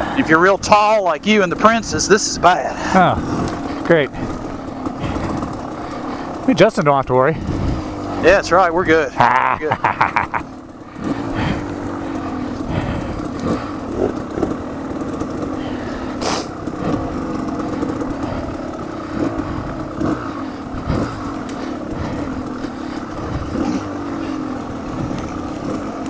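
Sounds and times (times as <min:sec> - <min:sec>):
bike clattering over rough ground: 0:00.0 - 0:08.3, 0:09.4 - 0:26.0
dirt bike engine running: 0:00.0 - 0:26.0.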